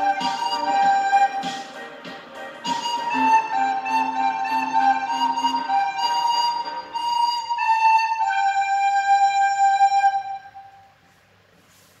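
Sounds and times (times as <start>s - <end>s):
recorder playing a tune: 0.0s - 11.0s.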